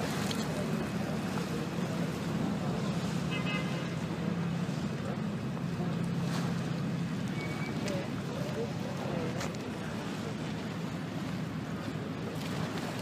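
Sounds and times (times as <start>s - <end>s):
choppy sea water: 0.0s - 13.0s
wind: 0.0s - 13.0s.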